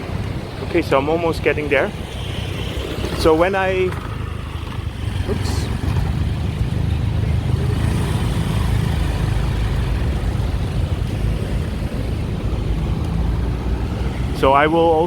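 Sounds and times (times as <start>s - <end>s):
city street traffic: 0.0s - 15.0s
wind buffeting microphone: 0.0s - 15.0s.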